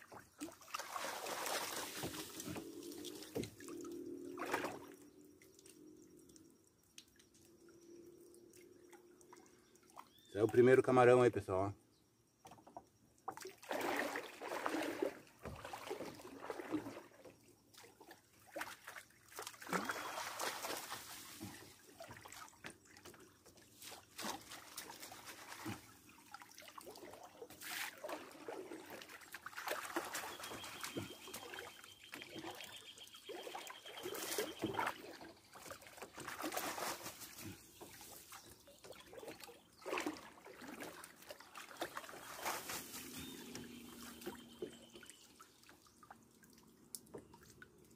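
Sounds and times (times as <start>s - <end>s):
river water sloshing and splashing: 0.0s - 5.9s, 13.3s - 47.9s.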